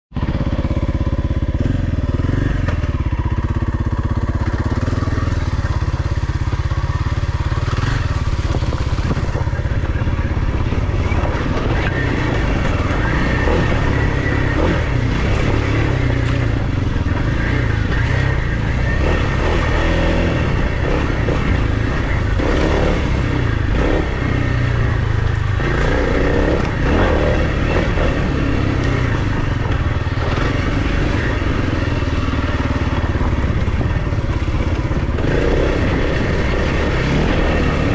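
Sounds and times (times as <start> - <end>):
dirt bike engine running: 0.1 - 37.9.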